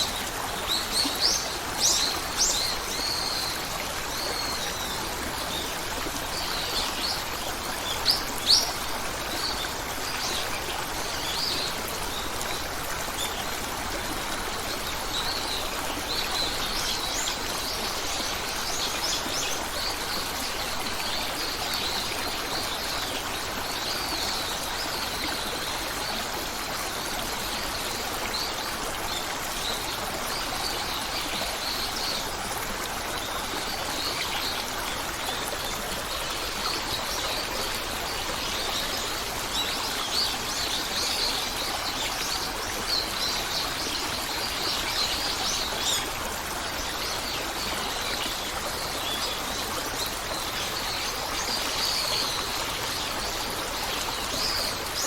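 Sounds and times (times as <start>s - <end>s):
stream running water: 0.0s - 55.0s.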